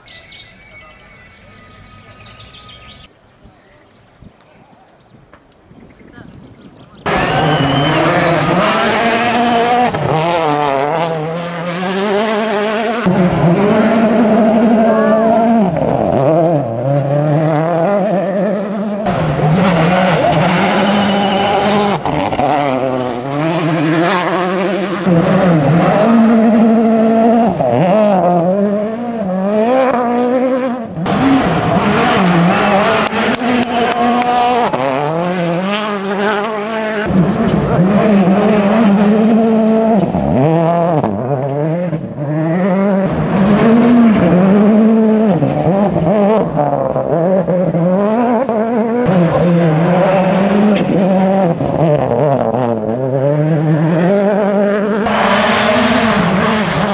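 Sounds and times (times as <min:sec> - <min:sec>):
rally cars revving past: 0:07.0 - 0:56.9.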